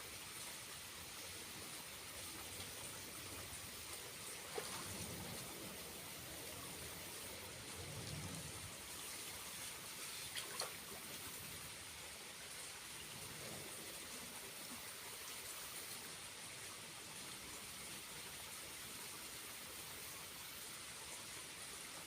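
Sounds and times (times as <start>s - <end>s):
small waterfall flowing: 0.0s - 22.0s.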